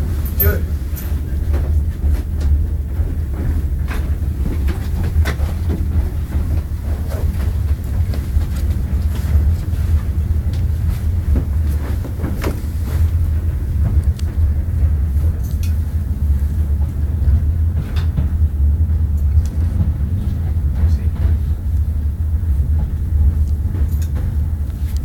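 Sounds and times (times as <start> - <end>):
train carriage rumble: 0.0 - 25.0.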